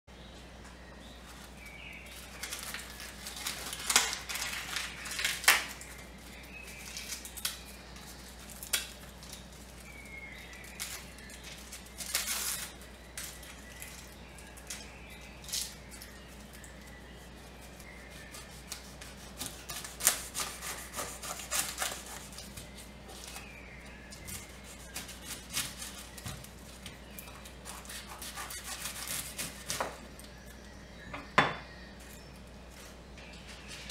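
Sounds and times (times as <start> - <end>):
garlic skins crinkling: 1.2 - 30.7.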